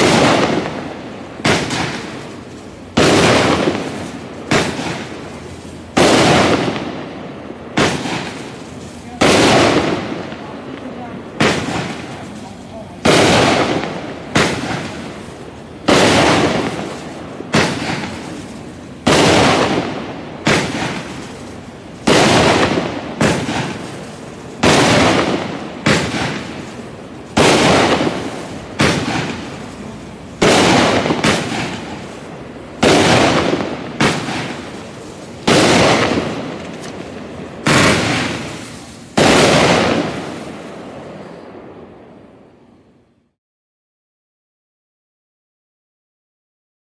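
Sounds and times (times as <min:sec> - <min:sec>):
fireworks bangs: 0:00.0 - 0:42.2.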